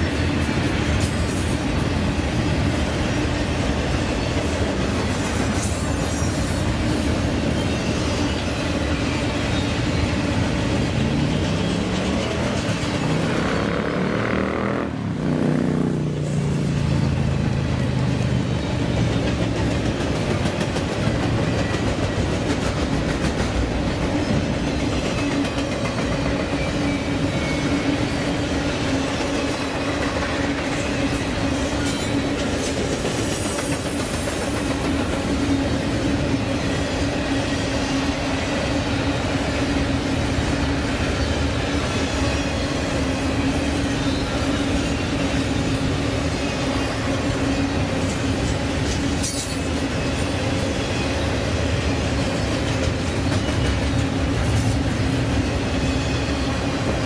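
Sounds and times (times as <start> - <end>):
train wheels clattering on track: 0.0 - 57.0.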